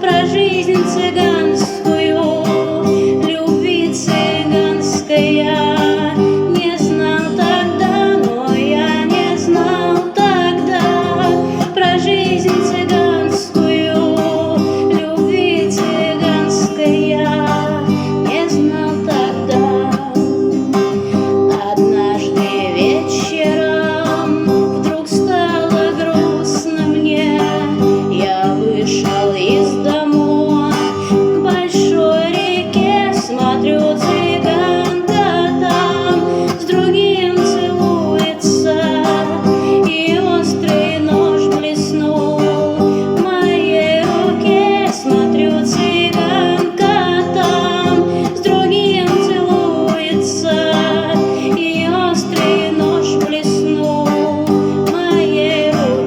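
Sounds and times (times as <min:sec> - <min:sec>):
acoustic guitar: 0:00.0 - 0:56.0
woman singing: 0:00.0 - 0:56.0.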